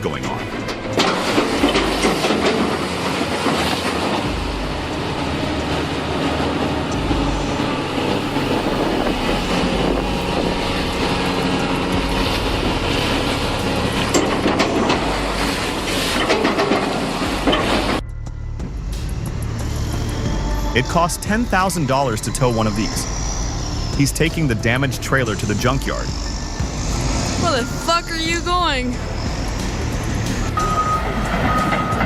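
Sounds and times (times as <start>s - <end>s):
heavy machinery rumbling and rattling: 0.0s - 32.0s.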